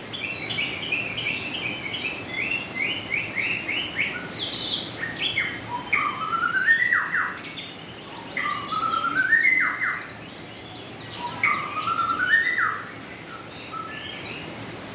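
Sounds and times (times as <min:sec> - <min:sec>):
birds chirping in background: 0:00.0 - 0:14.9
songbird singing: 0:00.0 - 0:14.9.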